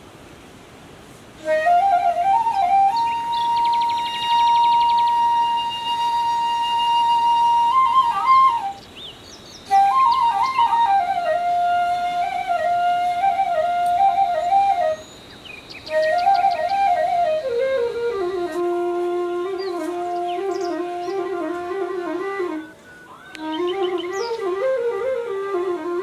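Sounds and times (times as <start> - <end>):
flute music: 1.4 - 8.8, 9.7 - 15.1, 15.9 - 26.0.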